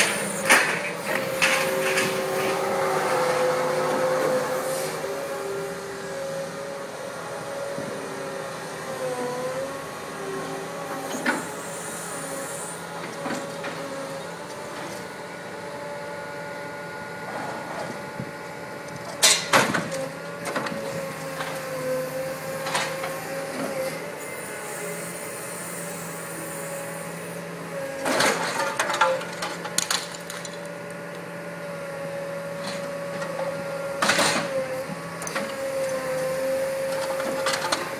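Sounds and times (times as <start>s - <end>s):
excavator engine and hydraulics whine: 0.0s - 37.9s.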